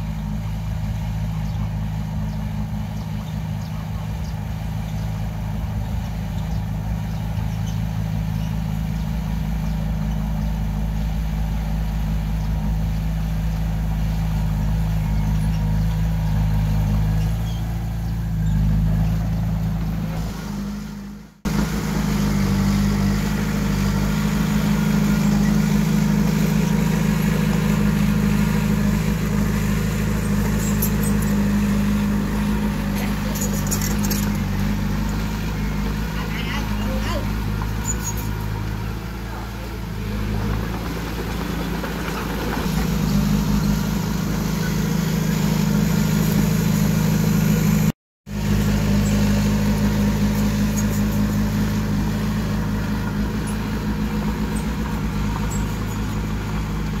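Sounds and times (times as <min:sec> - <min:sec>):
diesel machinery engine hum: 0:00.0 - 0:57.0.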